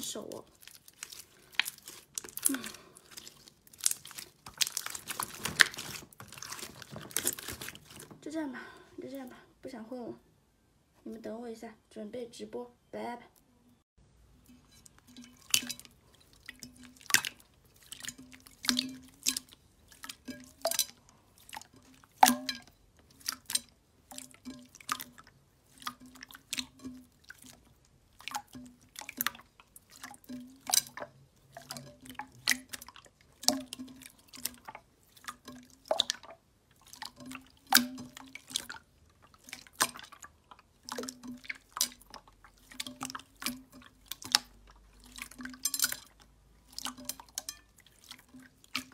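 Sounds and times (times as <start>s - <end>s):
slime squeezed with wet pops: 0.0s - 8.1s, 15.2s - 48.9s.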